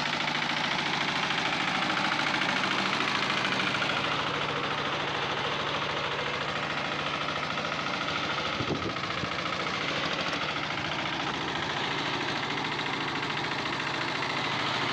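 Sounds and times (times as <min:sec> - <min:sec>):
loud engine knock: 0:00.0 - 0:14.9
tractor engine idling: 0:00.0 - 0:14.9.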